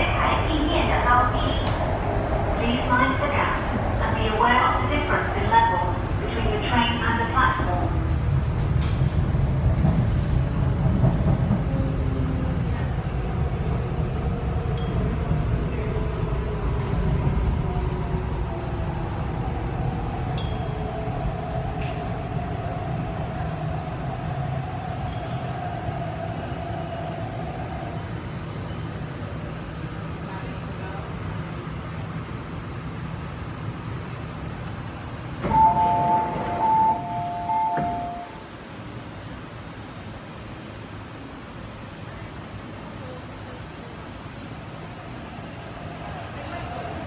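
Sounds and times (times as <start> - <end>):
train wheels and motors rumbling: 0.0 - 47.0.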